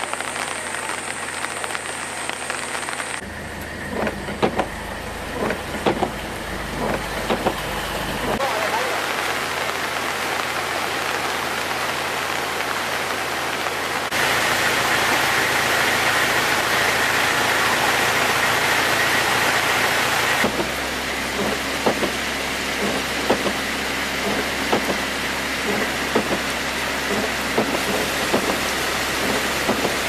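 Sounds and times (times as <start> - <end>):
rushing flood water: 3.9 - 30.0.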